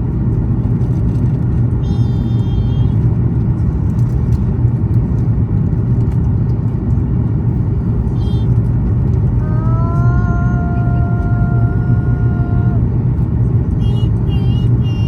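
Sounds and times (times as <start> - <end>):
airplane cabin rumble: 0.0 - 15.0.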